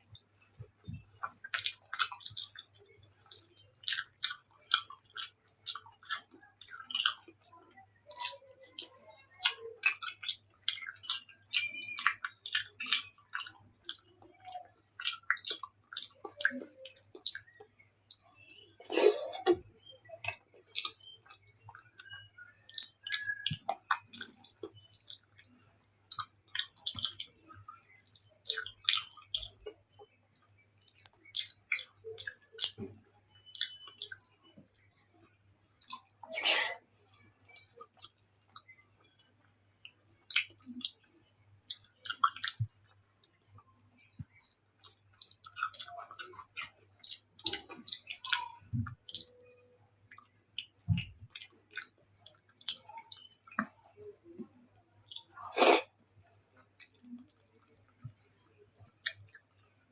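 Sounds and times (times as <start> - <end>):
close chewing and mouth sounds: 0.0 - 59.9.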